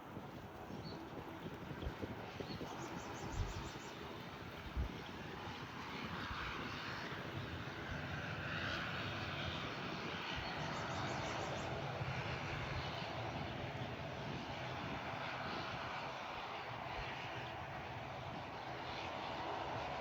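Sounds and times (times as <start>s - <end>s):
airliner engines running: 0.0s - 20.0s.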